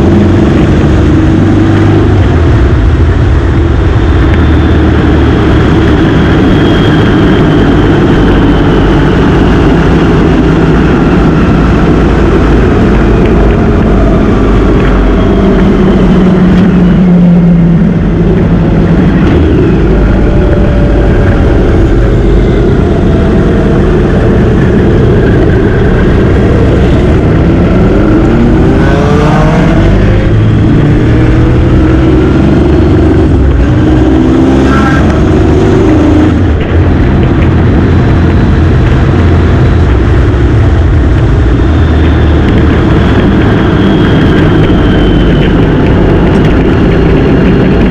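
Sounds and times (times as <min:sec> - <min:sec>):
motorcycle engine accelerating: 0:00.0 - 0:47.9
wind noise on microphone: 0:00.0 - 0:47.9.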